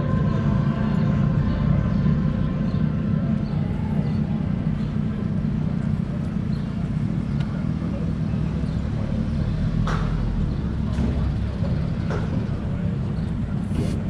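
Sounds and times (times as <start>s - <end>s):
motorcycle engine drone: 0.0s - 14.0s.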